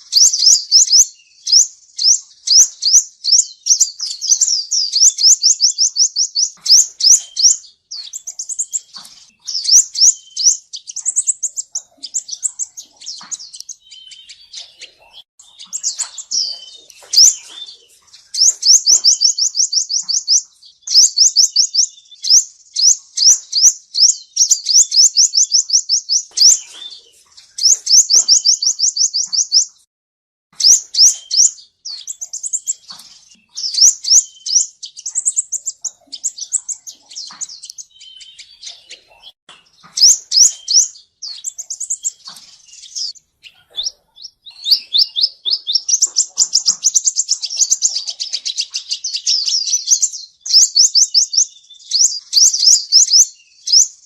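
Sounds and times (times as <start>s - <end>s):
sunbird singing high trills: 0.0s - 29.9s, 30.6s - 54.0s.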